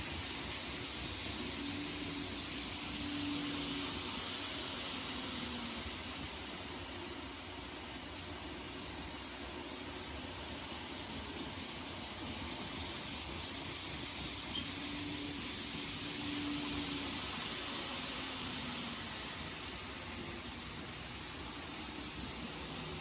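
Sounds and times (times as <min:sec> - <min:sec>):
model train motor hum: 0:00.0 - 0:23.0
steady hiss: 0:00.0 - 0:23.0.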